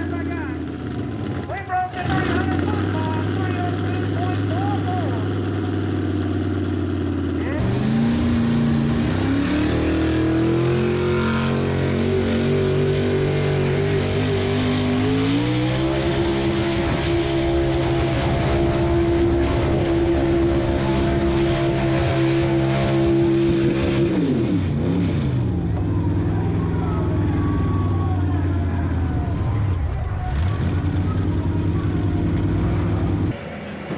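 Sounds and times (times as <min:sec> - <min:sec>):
truck engine at full throttle: 0:00.0 - 0:33.9.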